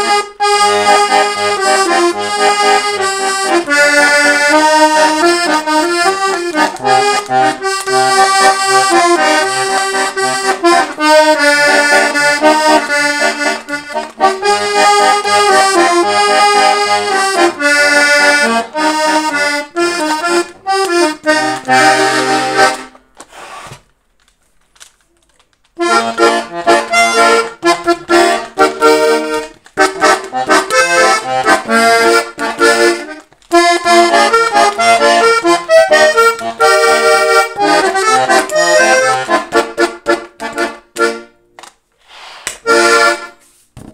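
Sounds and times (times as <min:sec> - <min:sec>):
accordion playing: 0:00.0 - 0:23.9, 0:25.7 - 0:43.7.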